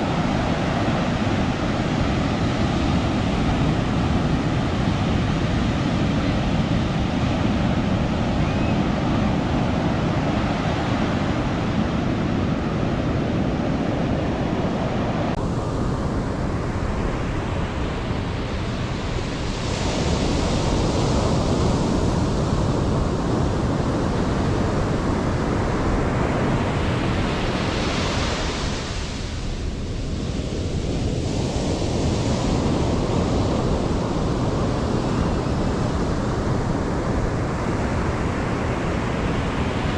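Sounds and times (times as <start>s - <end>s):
ocean surf breaking: 0.0s - 39.9s
wind rumble on microphone: 0.0s - 39.9s.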